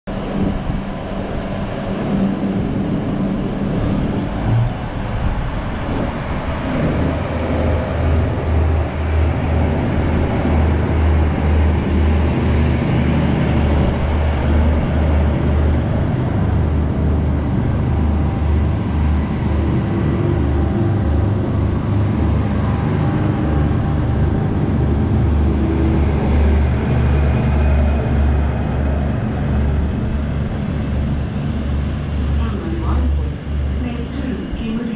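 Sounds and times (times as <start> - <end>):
diesel train engines droning: 0.1 - 34.9.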